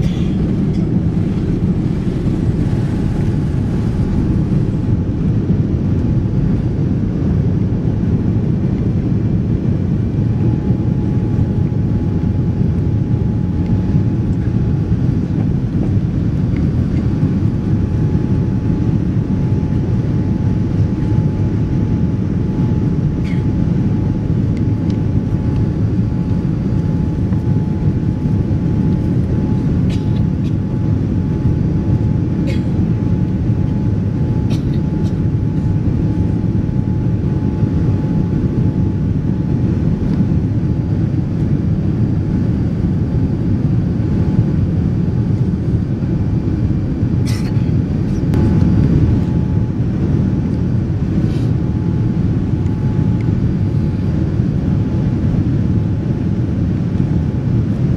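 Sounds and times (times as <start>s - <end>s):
airplane cabin rumble: 0.0s - 57.9s
faint steady hum: 0.0s - 57.9s.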